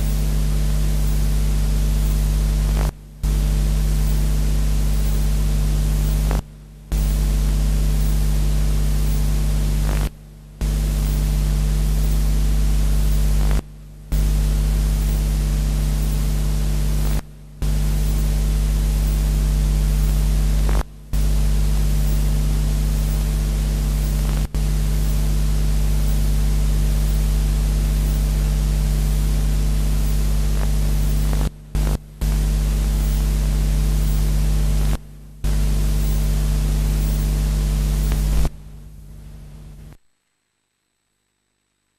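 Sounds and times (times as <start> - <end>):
mains hum: 0.0 - 41.9
static hiss: 0.0 - 41.9.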